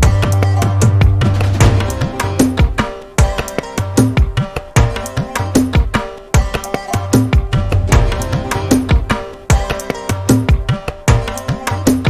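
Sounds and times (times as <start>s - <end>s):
hand drum strokes: 0.0s - 12.0s
instrumental background music: 0.0s - 12.0s.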